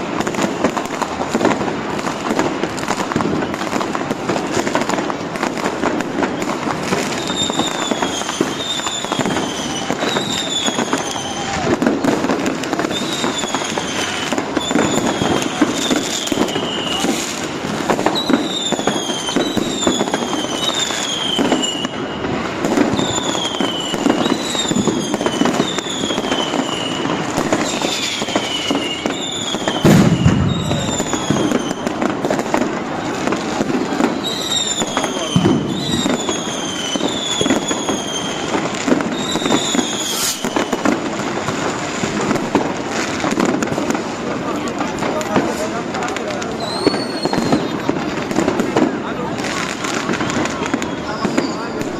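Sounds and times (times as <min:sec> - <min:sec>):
firework whistles falling in pitch: 0:00.0 - 0:43.8, 0:45.1 - 0:51.9
fireworks crackling and popping: 0:00.0 - 0:51.9
heavy firework bang: 0:00.0 - 0:51.9.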